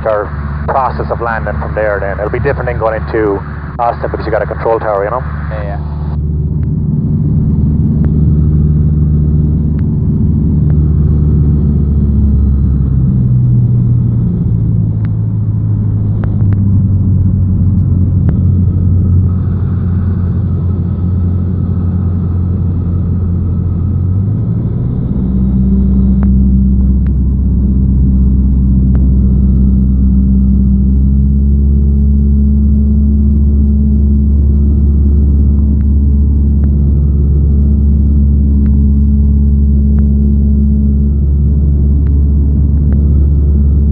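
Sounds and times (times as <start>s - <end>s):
propeller plane engine droning: 0.0s - 43.9s.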